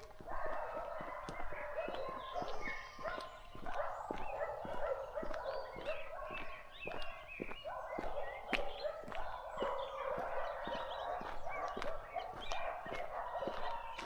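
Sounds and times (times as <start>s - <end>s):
chorus of animal calls: 0.0s - 14.0s
footsteps on forest path: 0.0s - 14.0s.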